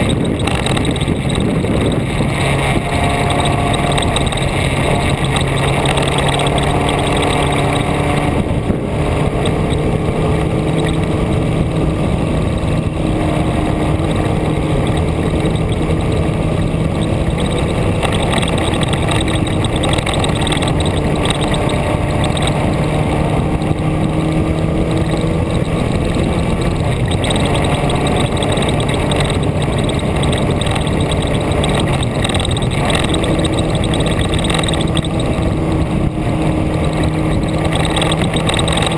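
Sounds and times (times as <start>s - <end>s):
road and wind noise: 0.0s - 38.9s
vehicle engine hum: 0.0s - 38.9s.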